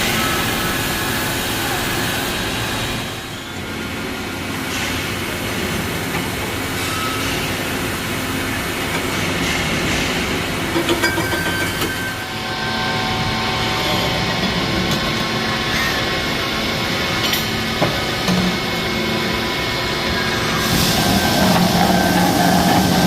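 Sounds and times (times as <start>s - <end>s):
machine hum and whine: 0.0s - 23.0s.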